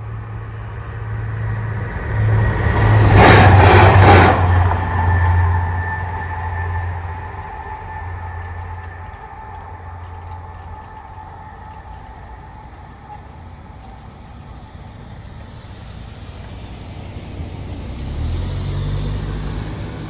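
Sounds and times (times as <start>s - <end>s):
car passing by: 0.0s - 20.0s.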